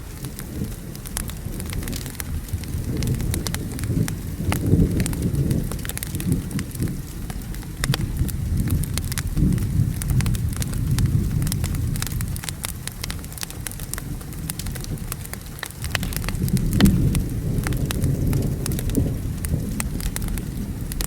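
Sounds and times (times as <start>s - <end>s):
rumble of thunder: 0.0s - 21.0s
steady rain: 0.0s - 21.0s
wood fire crackling and popping: 0.0s - 21.0s.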